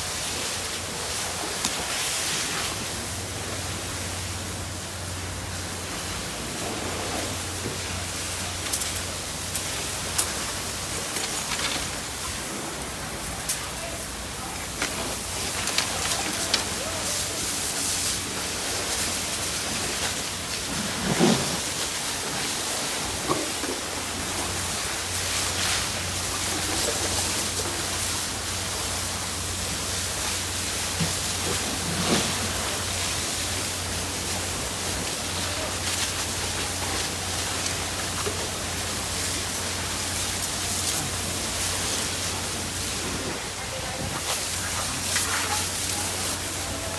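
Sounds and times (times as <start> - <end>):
water spraying from hose: 0.0 - 46.9
faint voices: 0.1 - 46.9.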